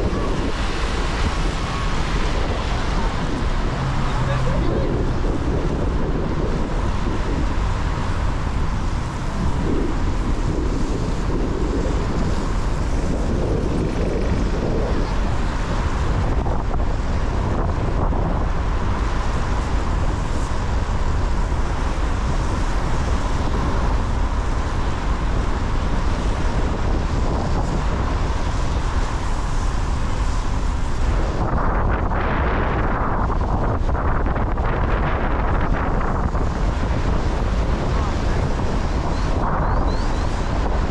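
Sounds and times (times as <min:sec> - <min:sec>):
low rumble: 0:00.0 - 0:40.9
wind buffeting microphone: 0:00.0 - 0:40.9.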